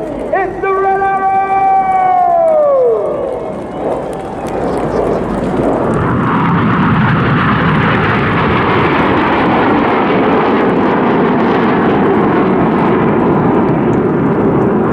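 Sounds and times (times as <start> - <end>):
jet aircraft flying over: 0.0 - 14.9.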